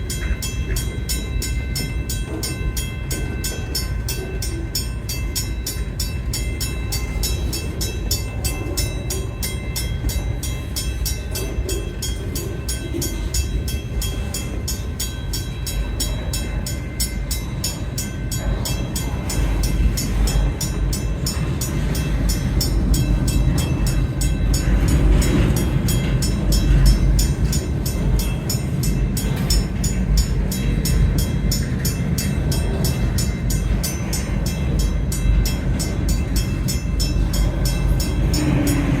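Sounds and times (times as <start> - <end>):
freight train rumble: 0.0 - 39.0
train wheel clatter: 0.0 - 39.0.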